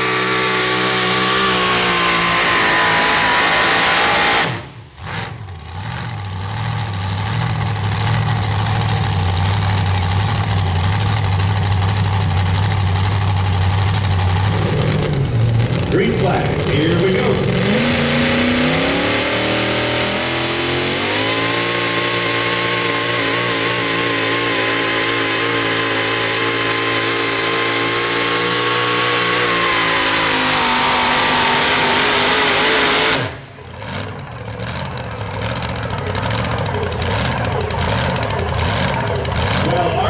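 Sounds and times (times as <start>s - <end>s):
truck engine at full throttle: 0.0s - 40.0s.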